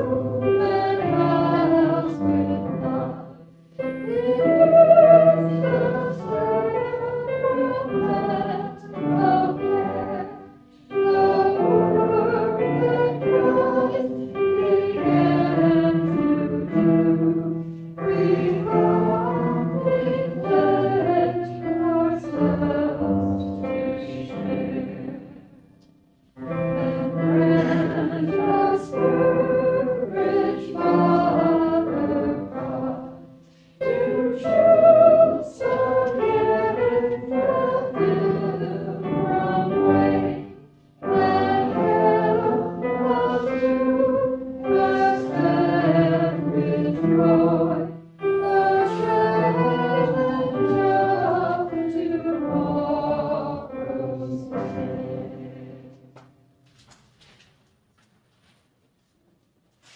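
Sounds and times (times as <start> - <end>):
congregation singing a hymn: 0.0 - 56.4.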